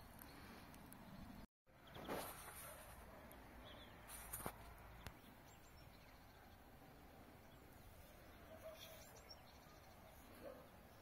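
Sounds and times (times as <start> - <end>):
bird chirping: 0.0 - 11.0
faint outdoor ambience: 0.0 - 11.0.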